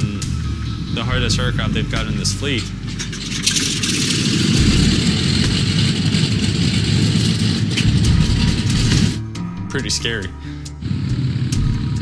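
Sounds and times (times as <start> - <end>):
piston aircraft engines rumbling: 0.0 - 12.0.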